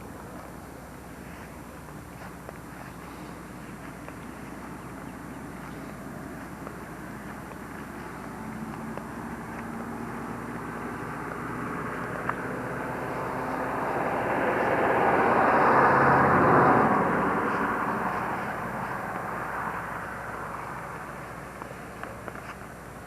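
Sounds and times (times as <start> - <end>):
vehicle passing by: 0.0 - 23.0.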